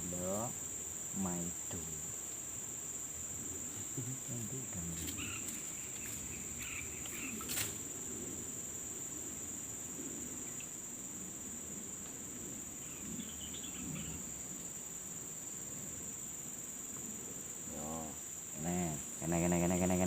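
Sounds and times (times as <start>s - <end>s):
high-pitched insect chorus drone: 0.0s - 20.0s.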